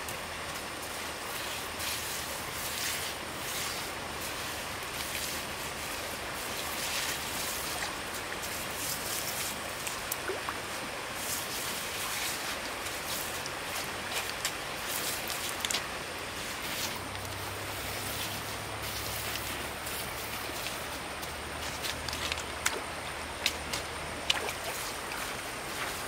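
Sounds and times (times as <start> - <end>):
light ticks and small splashes: 0.0 - 26.0
stream water running: 0.0 - 26.0.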